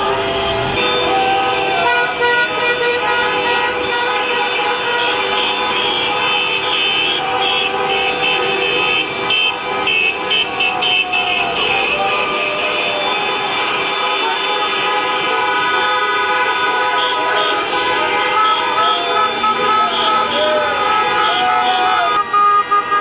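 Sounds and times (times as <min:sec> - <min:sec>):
many horns sounding: 0:00.0 - 0:23.0.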